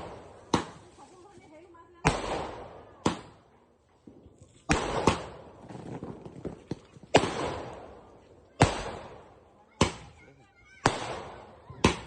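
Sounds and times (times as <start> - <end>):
fireworks bangs with echo: 0.0 - 1.0, 2.0 - 12.0.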